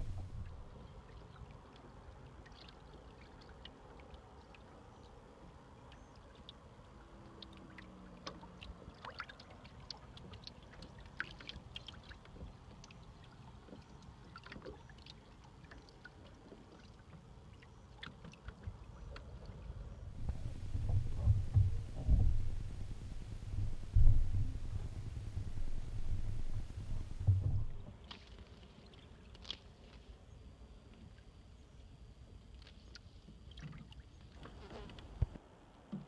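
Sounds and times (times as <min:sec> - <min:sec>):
water lapping against hull: 0:00.0 - 0:30.3, 0:31.0 - 0:36.0
small ticks and splashes: 0:00.2 - 0:22.8, 0:25.8 - 0:36.0.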